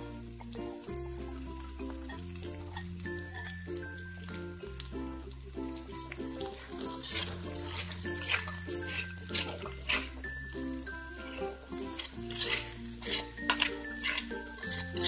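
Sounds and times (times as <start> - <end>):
spatula strokes in a wok: 0.0 - 15.0
vegetables sizzling in a wok: 0.0 - 15.0.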